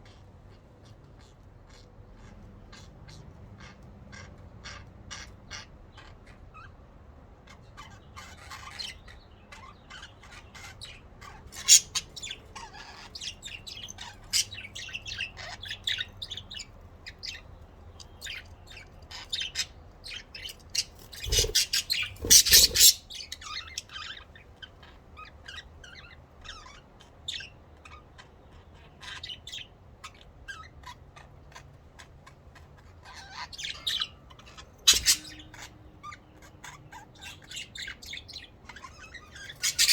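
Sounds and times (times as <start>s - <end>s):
budgerigars chirping: 0.0s - 6.8s, 7.5s - 39.9s.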